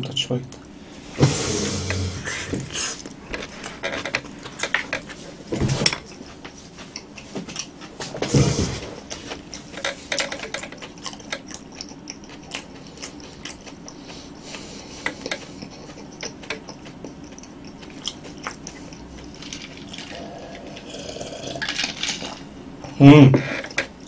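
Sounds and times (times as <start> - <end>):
person chewing: 1.6 - 24.0.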